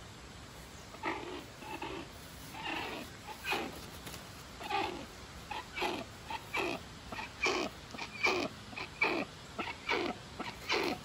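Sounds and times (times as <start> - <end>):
hornbill calling: 0.9 - 3.8, 4.6 - 11.0.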